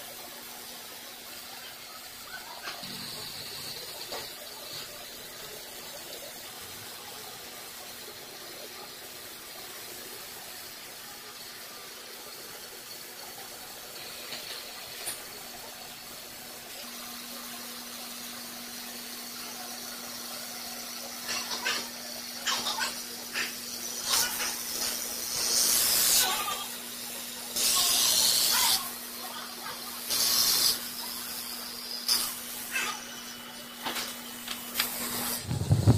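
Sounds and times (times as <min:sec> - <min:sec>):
machine hiss: 0:00.0 - 0:35.9.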